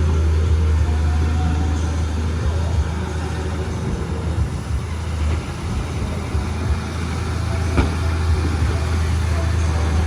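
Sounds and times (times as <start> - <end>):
bulldozer diesel engine droning: 0.0 - 10.0.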